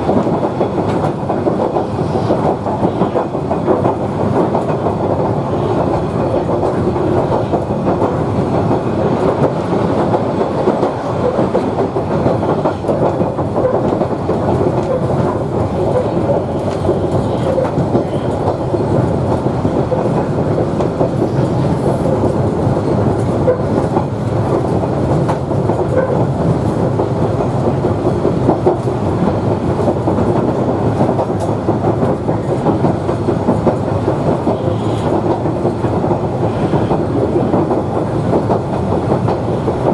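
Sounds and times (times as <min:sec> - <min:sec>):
railcar wheels on rails: 0:00.0 - 0:39.9.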